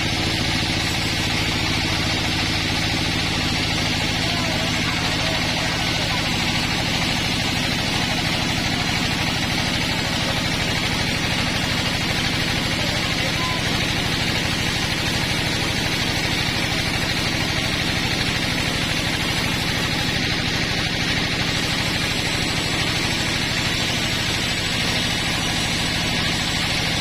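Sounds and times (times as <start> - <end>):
sawmill engine drone: 0.0 - 27.0.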